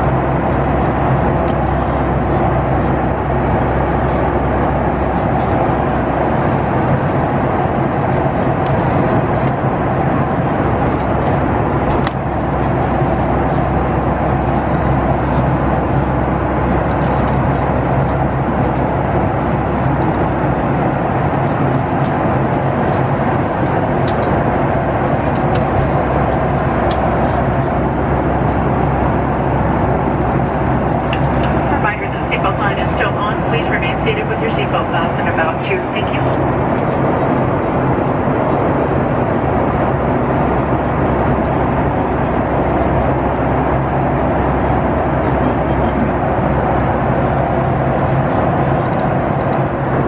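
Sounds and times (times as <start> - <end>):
airflow rush in aircraft cabin: 0.0 - 50.0
low engine hum: 0.0 - 50.0.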